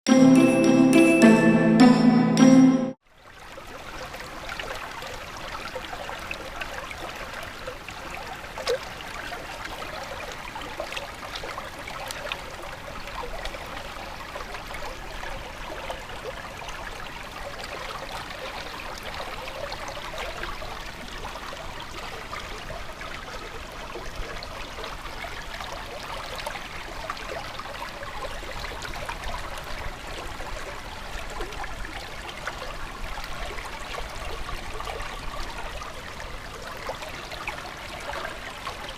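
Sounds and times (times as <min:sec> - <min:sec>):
stream trickling and babbling: 0:03.0 - 0:38.9.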